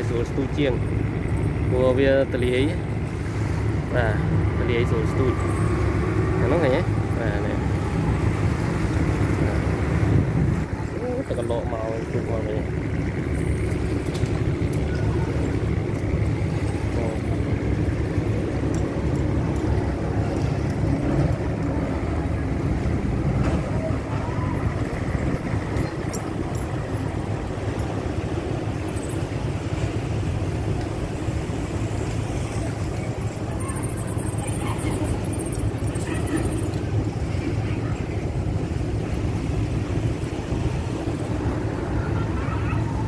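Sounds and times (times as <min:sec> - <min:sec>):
distant engines rumbling: 0:00.0 - 0:43.0.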